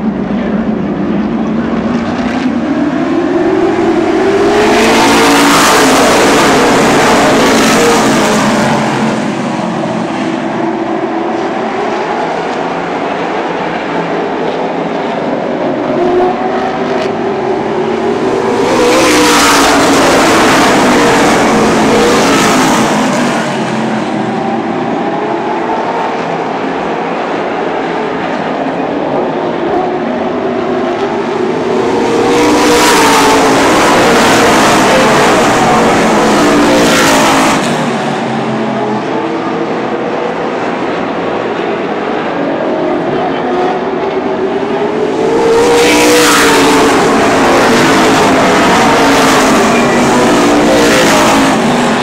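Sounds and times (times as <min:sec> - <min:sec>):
race car engines at full throttle: 0:00.0 - 0:52.0.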